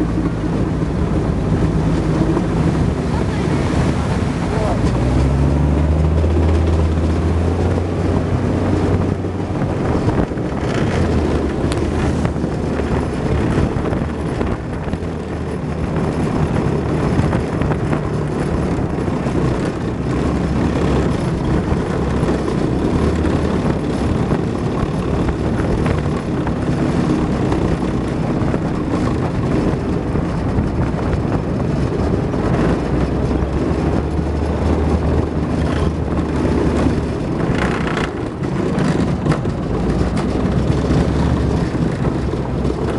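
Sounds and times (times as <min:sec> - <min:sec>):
tracked vehicle diesel engine: 0:00.0 - 0:42.9.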